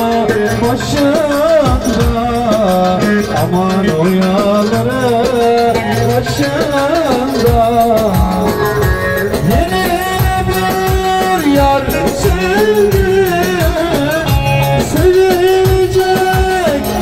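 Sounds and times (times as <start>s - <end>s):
electronic keyboard melody: 0.0s - 17.0s
folk dance music over loudspeakers: 0.0s - 17.0s.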